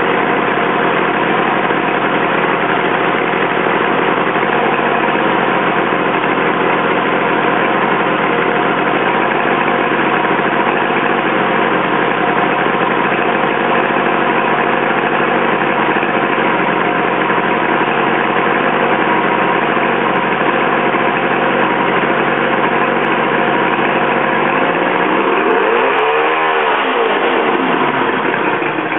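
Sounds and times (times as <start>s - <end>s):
outboard motor running: 0.0s - 28.9s
propeller churning water: 0.0s - 28.9s.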